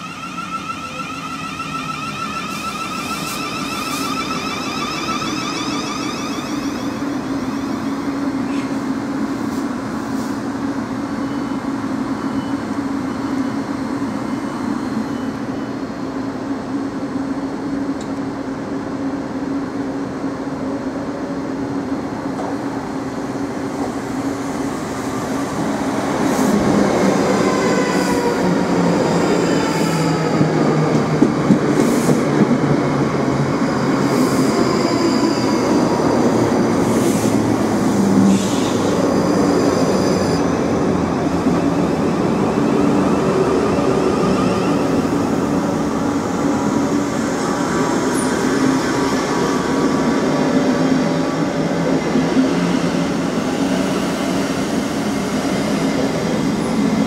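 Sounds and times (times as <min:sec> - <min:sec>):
electric train humming: 0:00.0 - 0:57.0.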